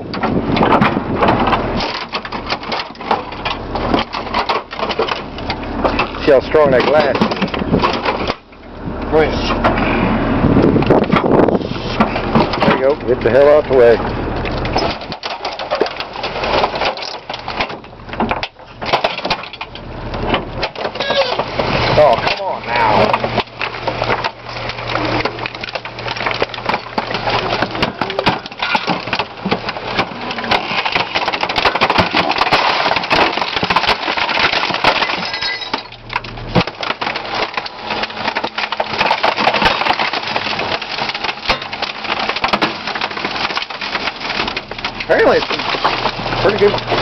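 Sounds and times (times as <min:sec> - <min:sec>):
compactor crushing appliance: 0:00.0 - 0:47.0
hydraulics droning: 0:00.0 - 0:47.0.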